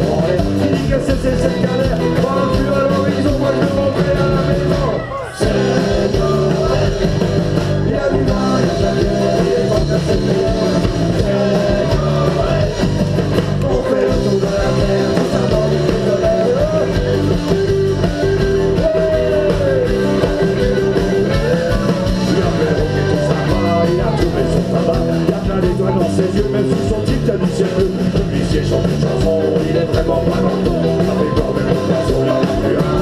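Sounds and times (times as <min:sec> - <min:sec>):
electric guitar melody bending notes: 0:00.0 - 0:27.0
live rock band playing: 0:00.0 - 0:33.0.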